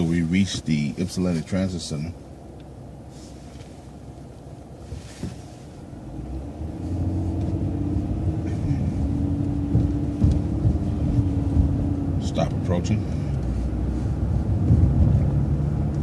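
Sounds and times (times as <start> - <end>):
bus engine rumble: 0.0 - 16.0
drivetrain whine: 0.0 - 16.0.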